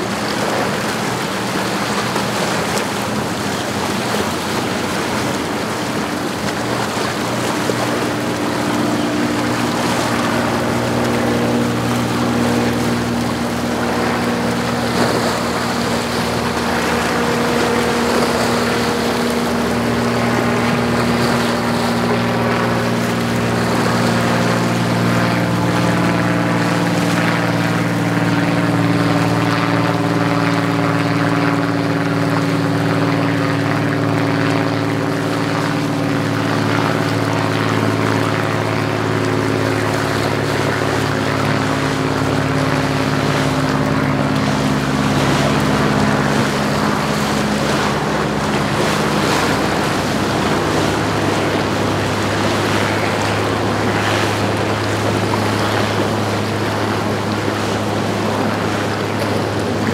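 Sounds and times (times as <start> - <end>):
wake rushing and churning water: 0.0 - 59.9
yacht engines droning: 0.0 - 59.9.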